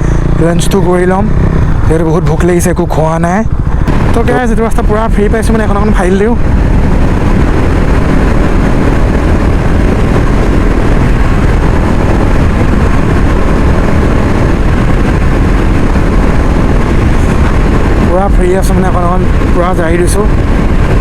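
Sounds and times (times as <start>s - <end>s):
motorcycle engine at full throttle: 0.0s - 21.0s
wind rushing over microphone: 0.0s - 21.0s.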